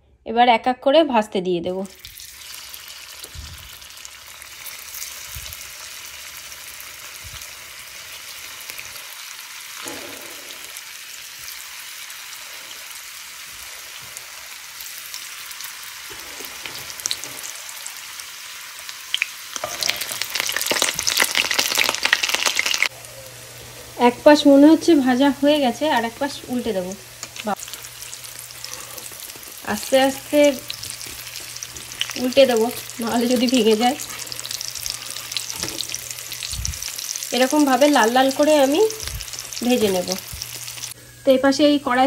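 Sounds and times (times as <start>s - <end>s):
food sizzling in hot oil: 1.8s - 41.0s.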